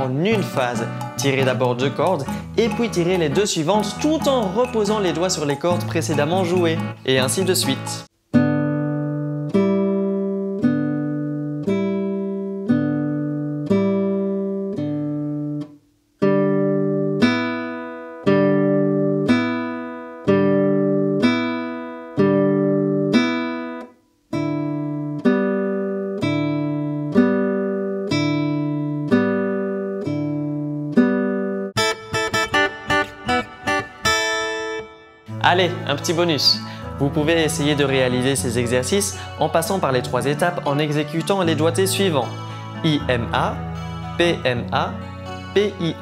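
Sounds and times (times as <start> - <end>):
classical guitar plucking: 0.0 - 46.0.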